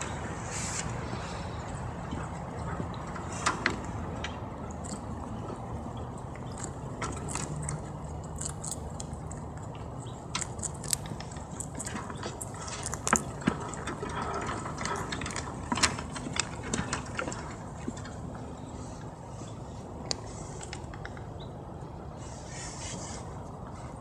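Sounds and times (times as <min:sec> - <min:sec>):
rabbits crunching cucumber: 0:00.0 - 0:24.0.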